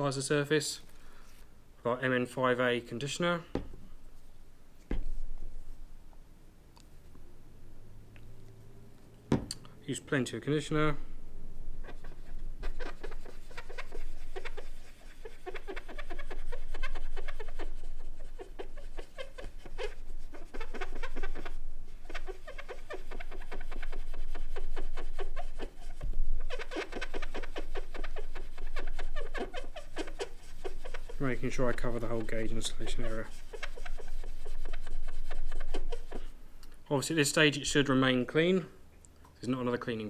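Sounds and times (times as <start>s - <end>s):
cotton swab rubbing metal: 0.0s - 6.0s, 10.0s - 38.2s.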